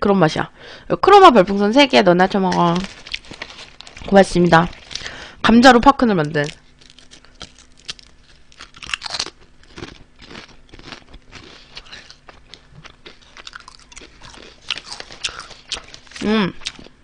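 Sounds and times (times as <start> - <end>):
crunching potato chips: 2.2 - 5.2, 6.2 - 17.0.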